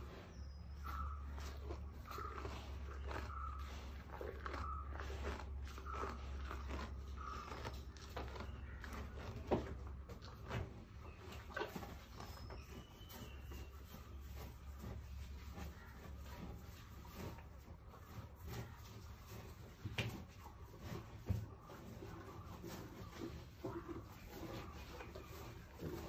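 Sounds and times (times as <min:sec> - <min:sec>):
calf chewing grass: 0:00.0 - 0:26.0.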